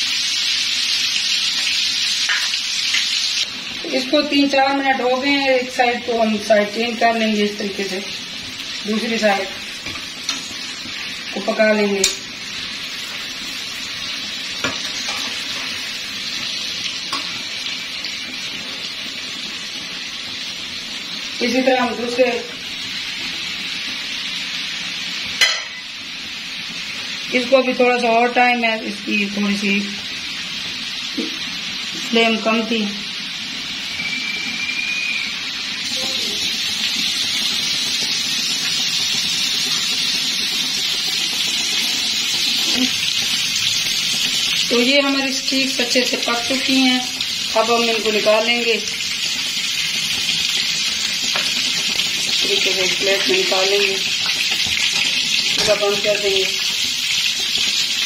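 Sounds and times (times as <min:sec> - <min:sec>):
chicken sizzling in a frying pan: 0:00.0 - 0:58.0.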